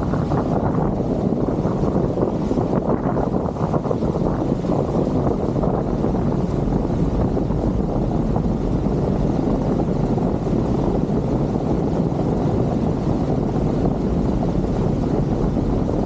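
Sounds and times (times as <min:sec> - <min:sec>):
motorboat engine rumble: 0:00.0 - 0:16.0.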